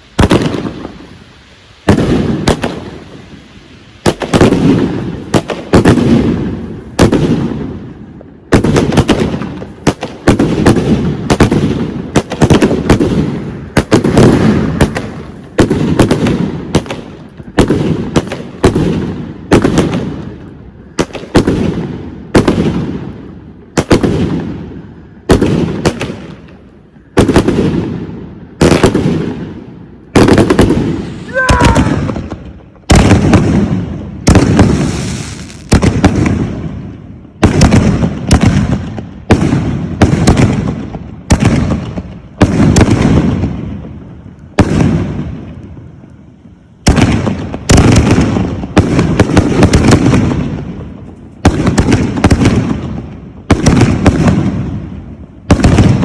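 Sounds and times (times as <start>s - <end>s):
fireworks exploding: 0.0s - 56.0s.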